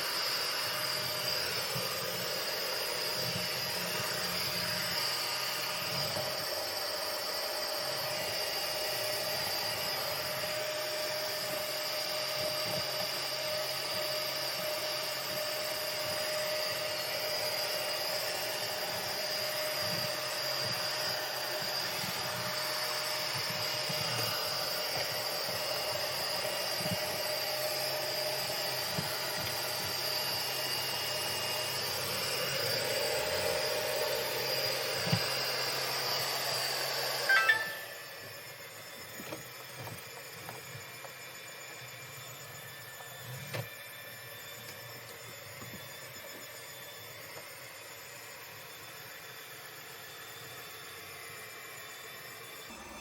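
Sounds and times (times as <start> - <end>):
robot vacuum running: 0.0 - 53.0.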